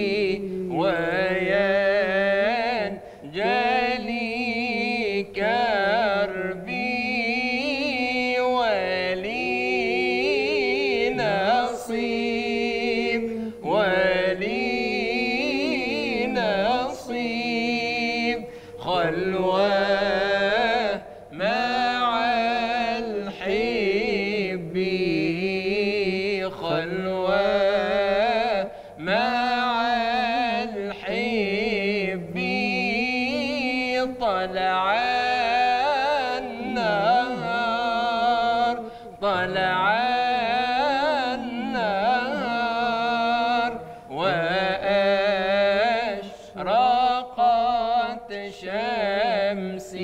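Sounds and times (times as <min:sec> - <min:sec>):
man singing devotional chant: 0:00.0 - 0:50.0.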